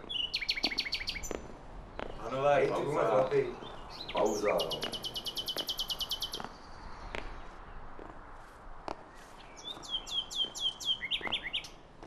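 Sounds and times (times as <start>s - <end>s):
songbird singing: 0.0s - 8.2s, 9.0s - 11.9s.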